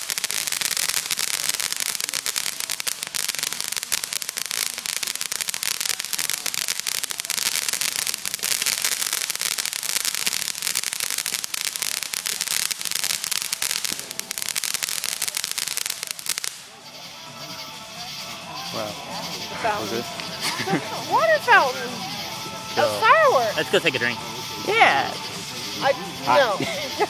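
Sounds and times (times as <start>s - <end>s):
firework fountain hissing and crackling: 0.0s - 27.0s.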